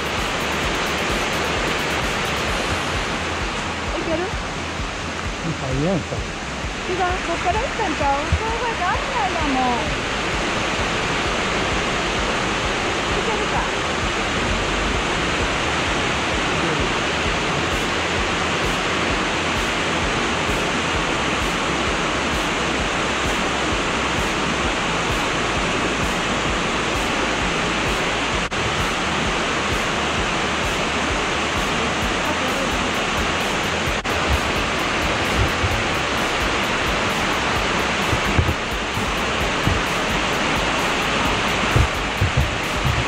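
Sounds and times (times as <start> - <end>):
waterfall cascading over rocks: 0.0 - 43.0.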